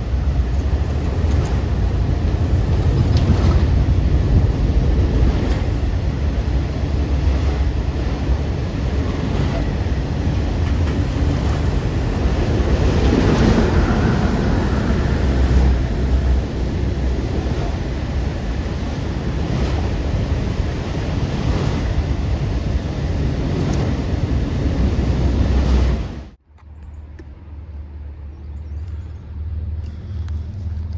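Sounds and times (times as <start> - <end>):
train passing at speed: 0.0 - 26.4
wind buffeting microphone: 0.0 - 26.4.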